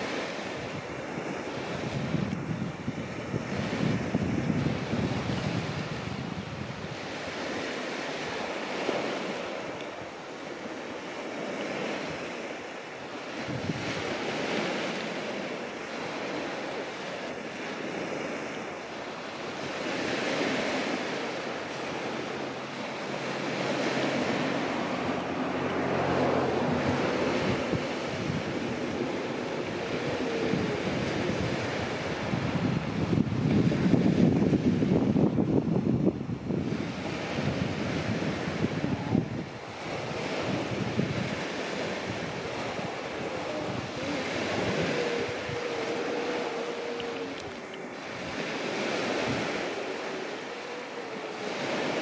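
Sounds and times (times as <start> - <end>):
sea waves washing onto shore: 0.0 - 52.0
wind buffeting microphone: 0.0 - 52.0.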